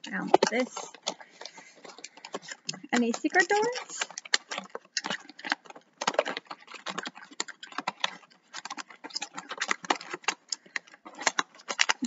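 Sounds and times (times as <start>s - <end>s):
plastic and card packs crinkling: 0.0s - 12.0s.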